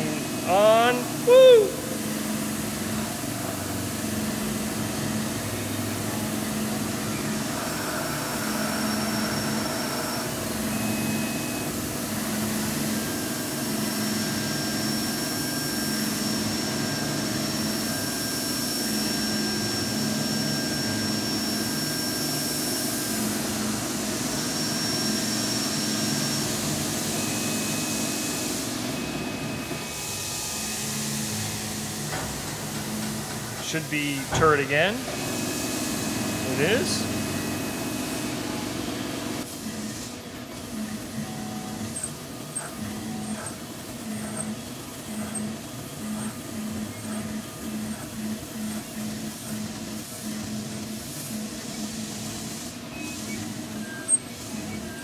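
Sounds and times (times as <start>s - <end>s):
high motor whines: 0.0s - 55.0s.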